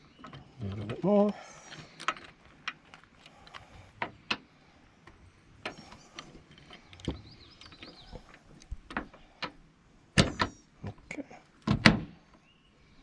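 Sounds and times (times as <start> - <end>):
metal latch clicks and taps: 0.1 - 9.6, 10.2 - 11.0.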